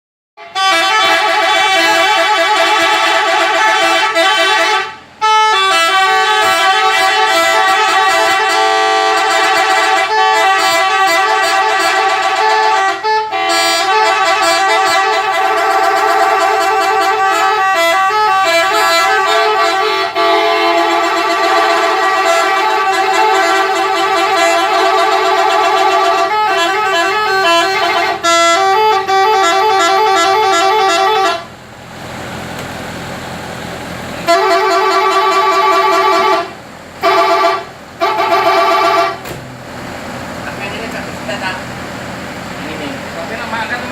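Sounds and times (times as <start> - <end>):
musical air horns playing tune: 0.4 - 31.6, 34.2 - 39.2.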